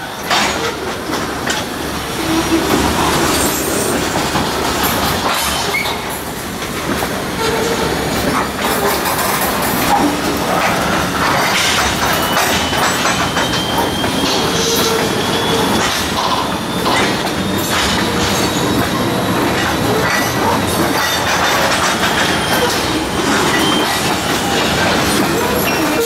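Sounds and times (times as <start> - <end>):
high wheel squeal: 0.0 - 26.0
train wheels rumbling on rails: 0.0 - 26.0
clicks over rail joints: 4.1 - 7.6, 8.2 - 26.0.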